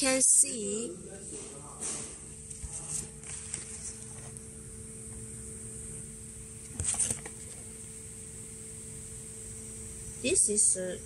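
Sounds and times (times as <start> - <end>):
faint high whine: 0.0 - 11.0
machinery hum: 0.0 - 11.0.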